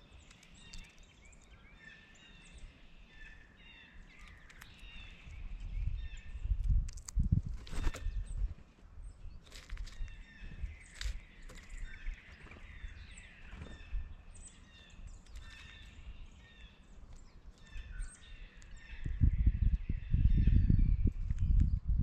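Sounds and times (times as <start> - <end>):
small songbirds calling: 0.0 - 22.0.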